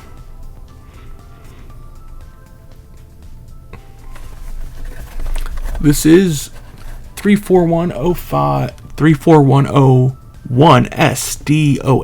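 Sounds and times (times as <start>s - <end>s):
music with held notes: 0.0s - 10.7s.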